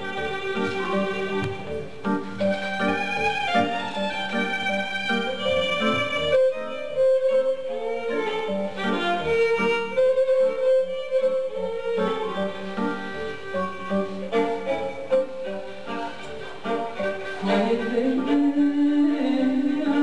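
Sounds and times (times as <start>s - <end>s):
violin folk melody: 0.0s - 20.0s.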